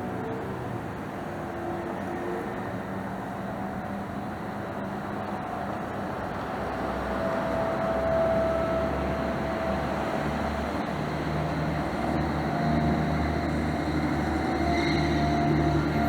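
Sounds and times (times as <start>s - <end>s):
warning siren roar: 0.0s - 16.0s.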